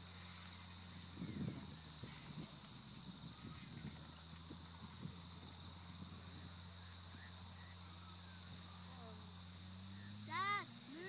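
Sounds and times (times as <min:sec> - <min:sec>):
distant piston engine aircraft drone: 0:00.0 - 0:11.0.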